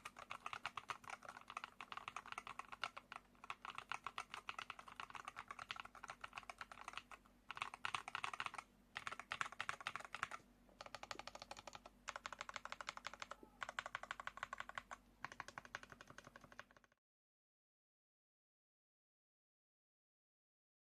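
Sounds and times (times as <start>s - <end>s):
fast typing on mechanical keyboard: 0.0s - 17.0s.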